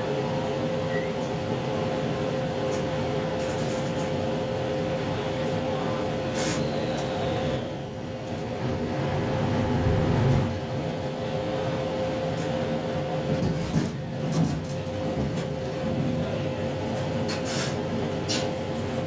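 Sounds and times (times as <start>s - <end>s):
diesel train hum and rumble: 0.0s - 19.0s.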